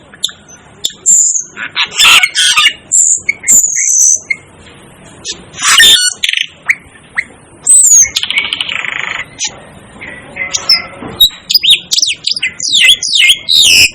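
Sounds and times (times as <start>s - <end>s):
starling calling: 0.1s - 4.5s, 5.2s - 13.9s.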